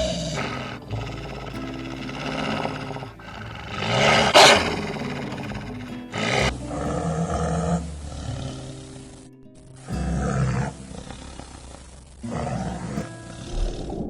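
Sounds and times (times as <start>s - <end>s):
animal roaring: 0.0s - 9.3s, 9.9s - 14.0s
background music: 0.0s - 14.0s.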